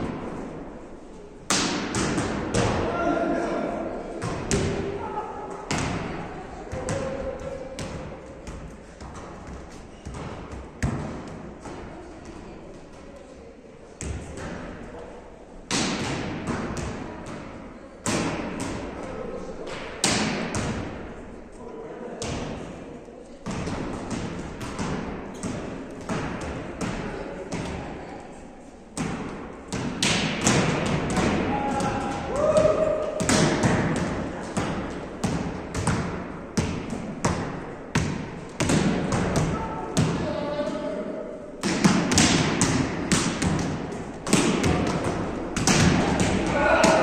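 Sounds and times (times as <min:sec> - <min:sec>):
volleyballs struck with echo: 0:00.0 - 0:00.8, 0:01.4 - 0:13.2, 0:13.9 - 0:21.4, 0:22.0 - 0:28.2, 0:28.9 - 0:47.0.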